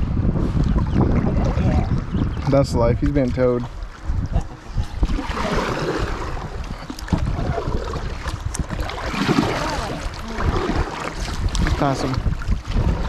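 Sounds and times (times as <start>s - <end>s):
wind rumbling on microphone: 0.0s - 13.0s
paddles splashing in water: 0.5s - 13.0s.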